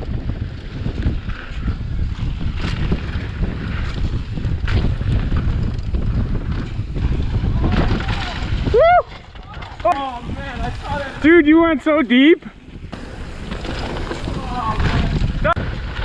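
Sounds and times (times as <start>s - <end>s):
bike rolling on dirt trail: 0.0s - 16.0s
wind buffeting microphone: 0.0s - 16.0s
bike knocks and rattles: 0.1s - 16.0s.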